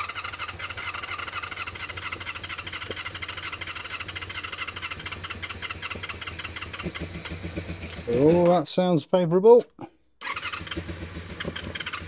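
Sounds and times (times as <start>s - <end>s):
electric starter cranking engine: 0.0s - 8.5s, 10.2s - 12.0s.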